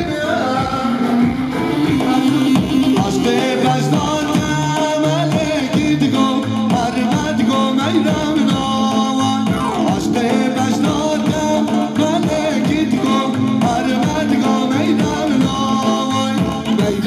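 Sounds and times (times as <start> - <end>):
folk music with singing: 0.0 - 17.0
steady drum beat: 0.0 - 17.0.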